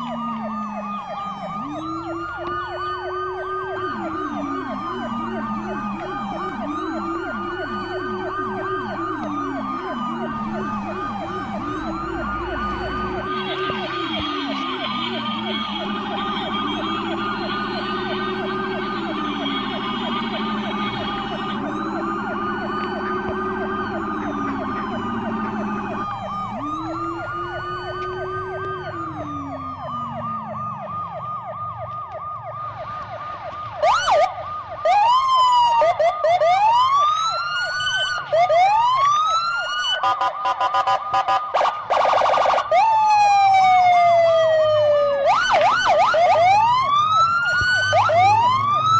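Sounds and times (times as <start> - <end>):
fast warbling toy siren: 0.0 - 32.4, 33.4 - 48.9
rising and falling siren wails: 0.0 - 48.9.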